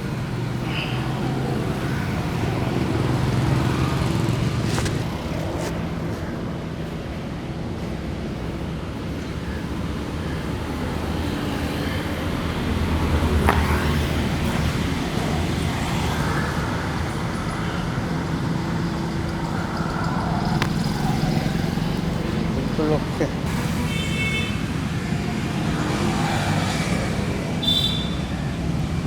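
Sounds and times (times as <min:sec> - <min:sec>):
road traffic engines running: 0:00.0 - 0:29.0.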